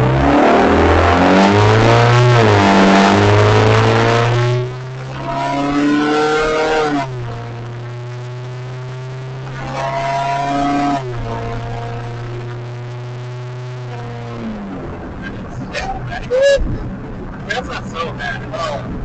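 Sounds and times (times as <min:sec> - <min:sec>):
loud car engine accelerating: 0:00.0 - 0:19.0.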